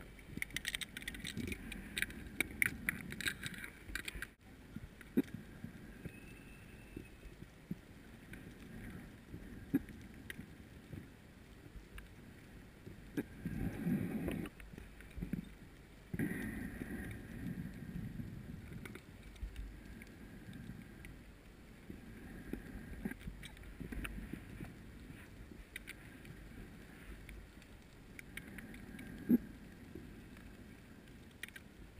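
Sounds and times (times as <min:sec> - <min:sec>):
faint underwater clicks and knocks: 0:00.0 - 0:06.3, 0:07.0 - 0:31.9
underwater low rumble: 0:00.0 - 0:31.9.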